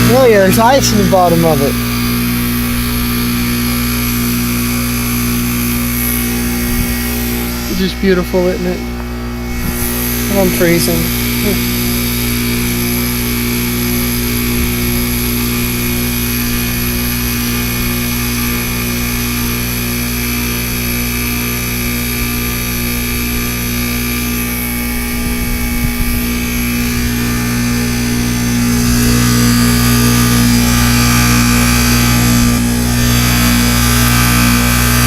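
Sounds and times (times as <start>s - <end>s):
heat pump compressor humming: 0.0s - 35.0s.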